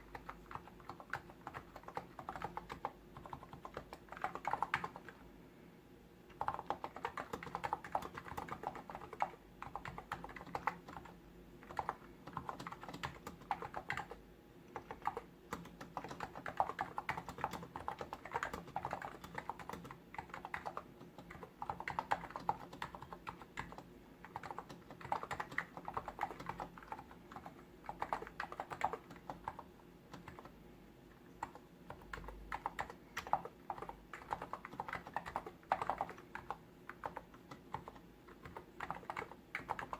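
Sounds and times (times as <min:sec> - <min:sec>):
keyboard typing: 0:00.0 - 0:05.2, 0:06.3 - 0:30.6, 0:31.2 - 0:39.9.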